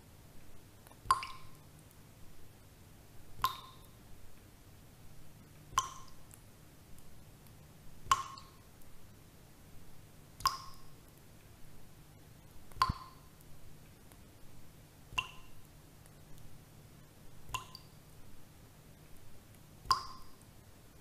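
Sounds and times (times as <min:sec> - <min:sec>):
low steady hum: 0:00.0 - 0:21.0
water dripping: 0:00.3 - 0:02.0, 0:03.4 - 0:04.8, 0:05.4 - 0:09.1, 0:10.3 - 0:21.0.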